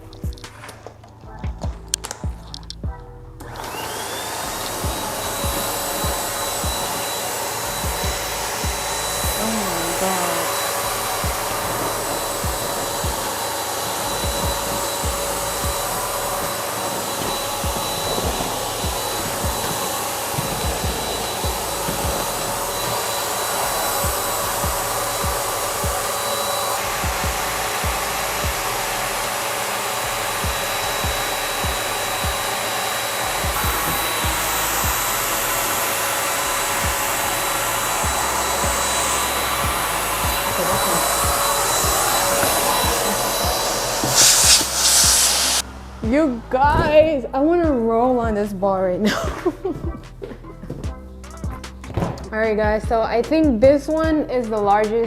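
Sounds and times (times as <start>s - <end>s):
electric air pump whirring: 0.0s - 47.0s.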